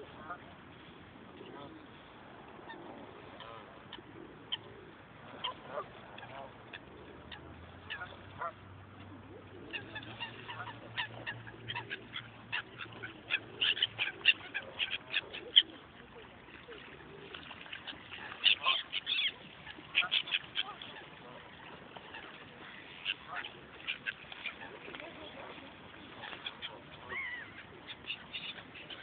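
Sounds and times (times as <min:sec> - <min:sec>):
waterfowl calling: 0:02.6 - 0:29.0.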